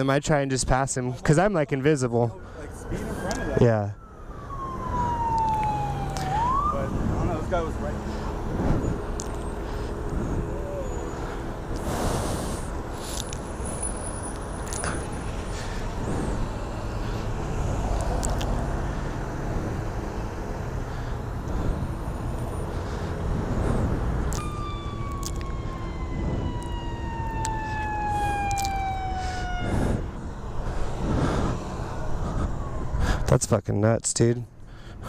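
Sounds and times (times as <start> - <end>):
traffic noise: 0.0 - 35.0
emergency vehicle siren: 1.2 - 33.5.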